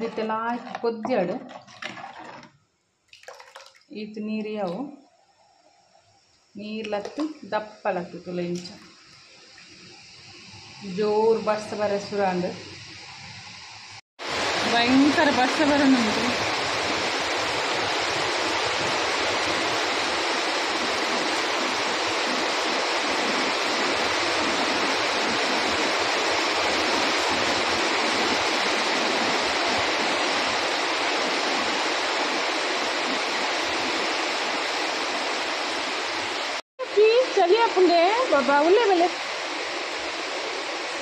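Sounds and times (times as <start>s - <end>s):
heavy rain pouring: 6.9s - 41.0s.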